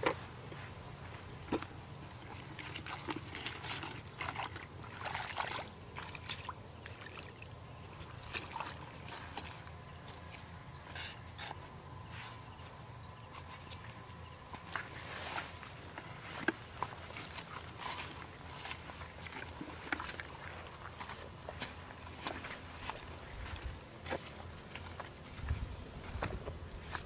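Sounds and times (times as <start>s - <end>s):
footsteps squelching through mud: 0.0s - 27.0s.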